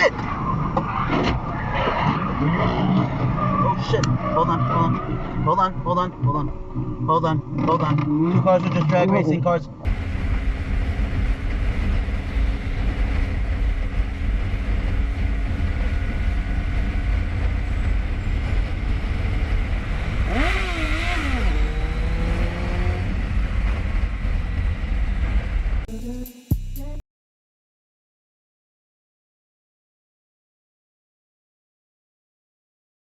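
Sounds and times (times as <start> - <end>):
motor vehicle rumble: 0.1 - 27.0.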